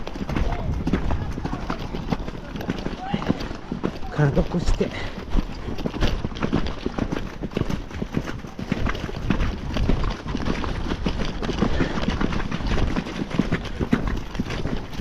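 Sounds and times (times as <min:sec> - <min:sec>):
horse hoofbeats: 0:00.0 - 0:15.0.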